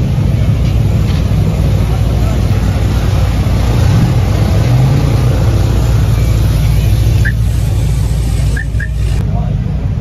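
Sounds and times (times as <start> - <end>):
car exhaust rumble passing: 0.0 - 9.2.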